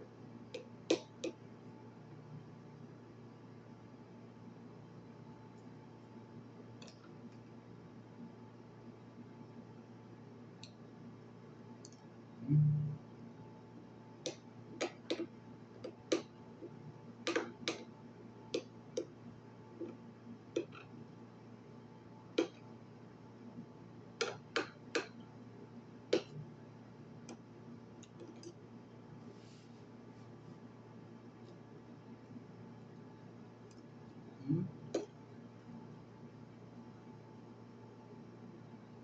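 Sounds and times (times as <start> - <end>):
low steady background noise: 0.0 - 39.0.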